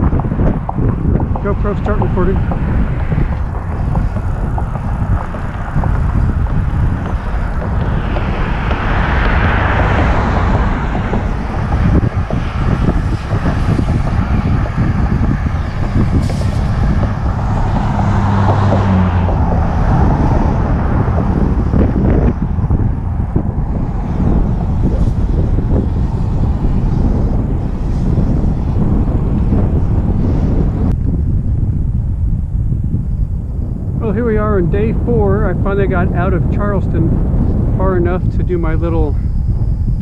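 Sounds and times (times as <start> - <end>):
steady engine hum: 0.0 - 40.0
vehicles passing: 0.0 - 40.0
wind buffeting microphone: 0.0 - 40.0.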